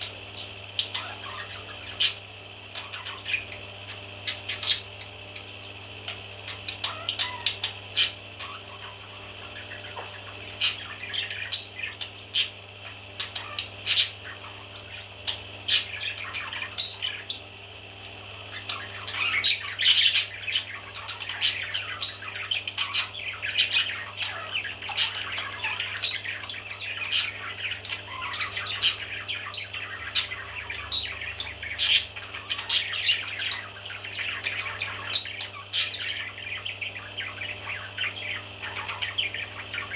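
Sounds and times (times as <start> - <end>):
baby parrots squawking: 0.8 - 5.0, 6.1 - 17.4, 18.5 - 39.9.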